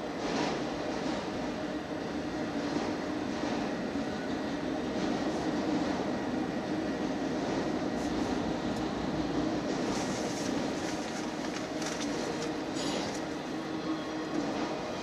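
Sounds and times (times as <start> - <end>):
steel train wheels on rail: 0.0 - 15.0.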